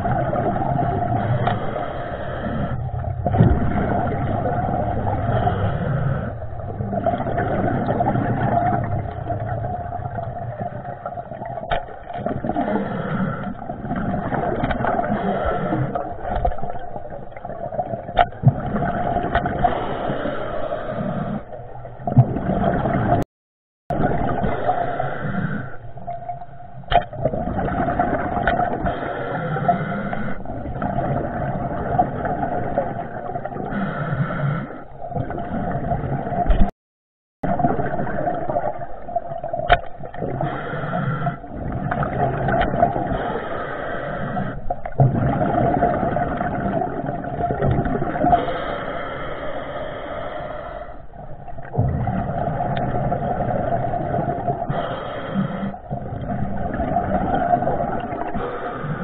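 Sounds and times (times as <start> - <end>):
water rushing underwater: 0.0 - 23.3, 23.9 - 36.7, 37.4 - 59.0.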